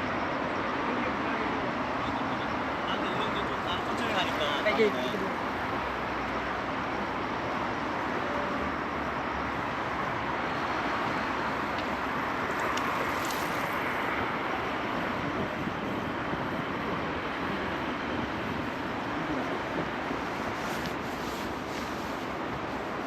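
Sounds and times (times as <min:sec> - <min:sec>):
passing cars traffic noise: 0:00.0 - 0:23.0.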